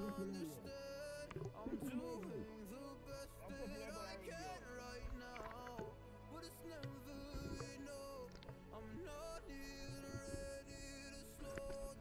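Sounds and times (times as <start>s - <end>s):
song with steady beat: 0.0s - 12.0s.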